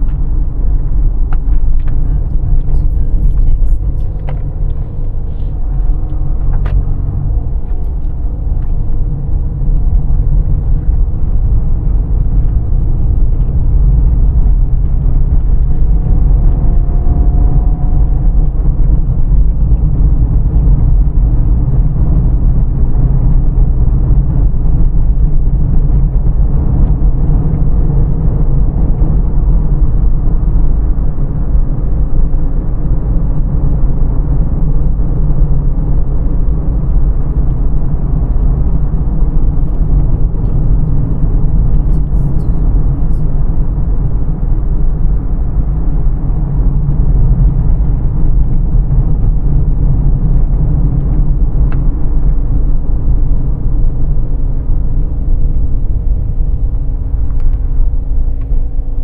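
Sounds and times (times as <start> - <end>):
car engine and road rumble: 0.0 - 59.0
faint rising whine: 0.0 - 59.0.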